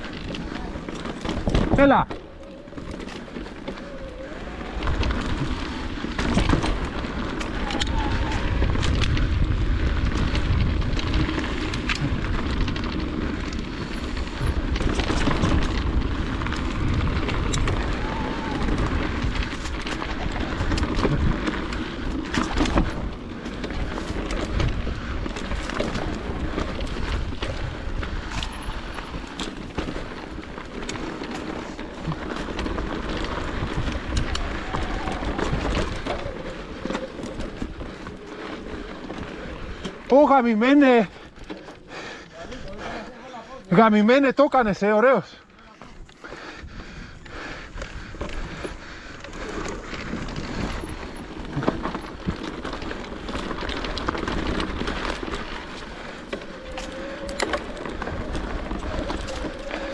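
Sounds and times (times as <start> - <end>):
wind rumbling on microphone: 0.0 - 43.1, 45.8 - 59.9
bike tyre noise: 0.0 - 59.9.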